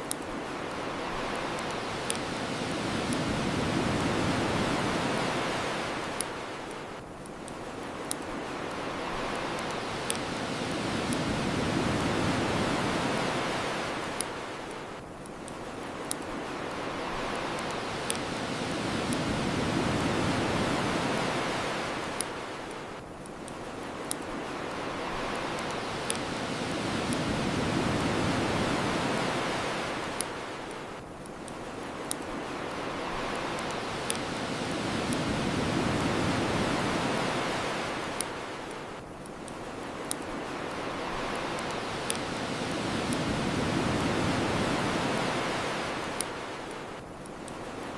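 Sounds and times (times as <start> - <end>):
bonfire crackling pops: 0.0 - 47.9
ocean waves washing ashore: 0.0 - 47.9.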